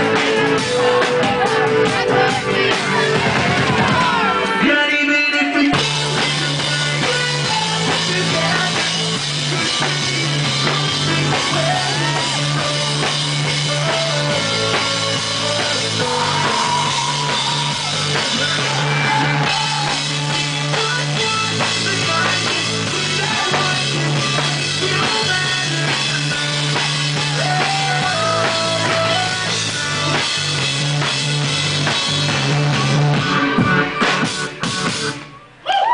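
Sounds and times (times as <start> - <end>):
drum kit beat: 0.0 - 35.3
rock band playing live: 0.0 - 35.6
bass line: 0.0 - 35.9.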